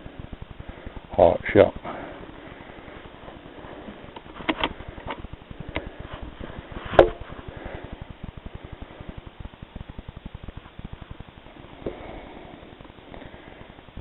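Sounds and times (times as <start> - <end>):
fast faint low ticking: 0.0 - 14.0.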